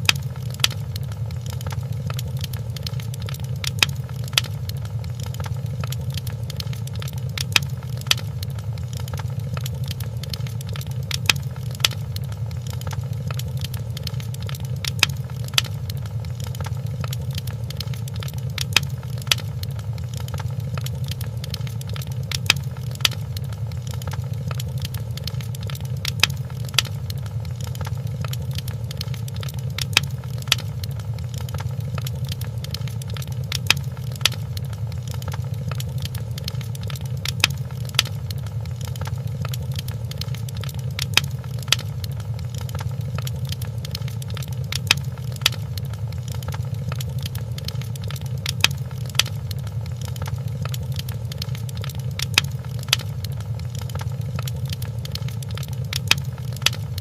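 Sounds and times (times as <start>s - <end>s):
fire crackling: 0.0s - 57.0s
fire popping: 0.0s - 57.0s.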